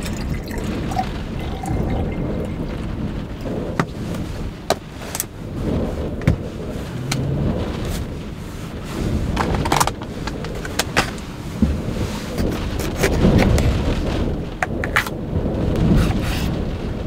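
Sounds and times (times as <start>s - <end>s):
wind and rain buffeting car: 0.0s - 17.0s.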